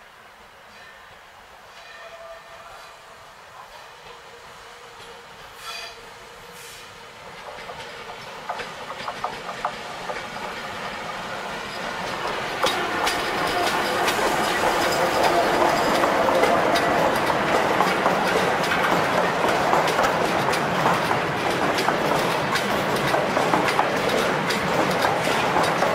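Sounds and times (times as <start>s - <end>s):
train wheels rumbling over rails: 3.6s - 25.9s.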